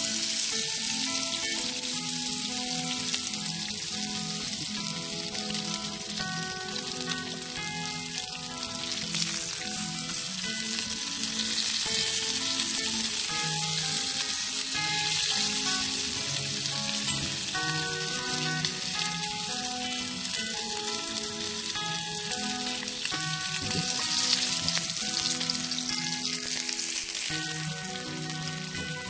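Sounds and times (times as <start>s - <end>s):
background music with held notes: 0.0s - 29.0s
food sizzling in a pan: 0.0s - 29.0s.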